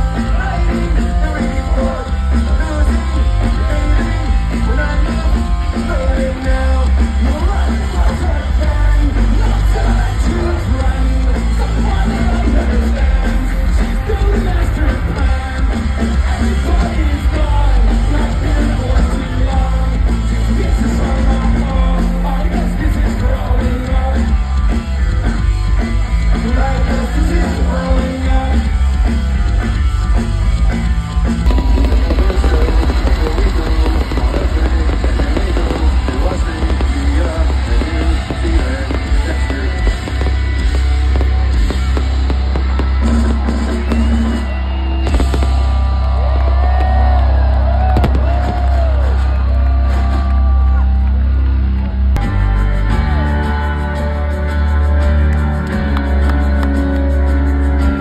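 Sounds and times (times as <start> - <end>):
heavy bass and drums: 0.0 - 58.0
live rock band playing: 0.0 - 58.0.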